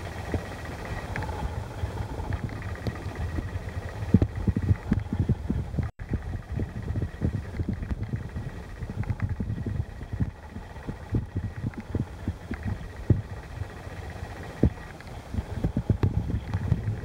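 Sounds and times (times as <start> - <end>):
low underwater rumble: 0.0 - 17.0.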